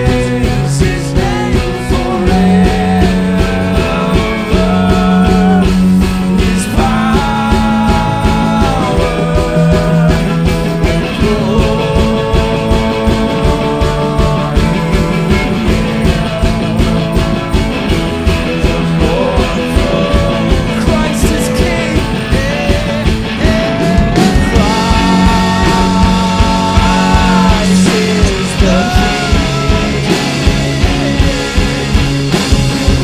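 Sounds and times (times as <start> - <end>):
electric guitars playing melody: 0.0 - 33.0
steady drum beat: 0.0 - 33.0.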